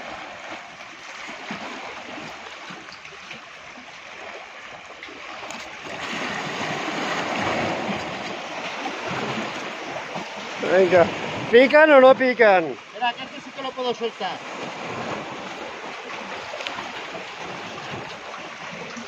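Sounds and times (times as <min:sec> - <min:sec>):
sea water washing against rocks: 0:00.0 - 0:19.0.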